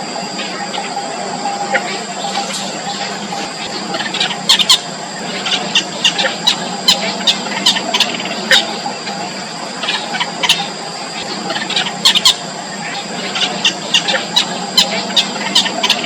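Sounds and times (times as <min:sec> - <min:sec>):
high-pitched background hum: 0:00.0 - 0:16.0
bitterns giving squeaky calls: 0:00.4 - 0:16.0.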